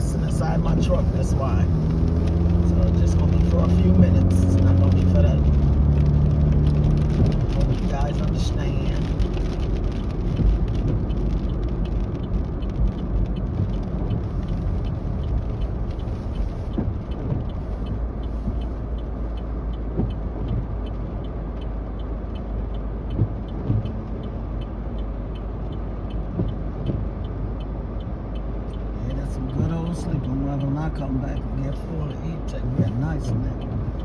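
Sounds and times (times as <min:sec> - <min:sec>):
faint regular ticking: 0:00.0 - 0:34.0
truck engine and road noise: 0:00.0 - 0:34.0.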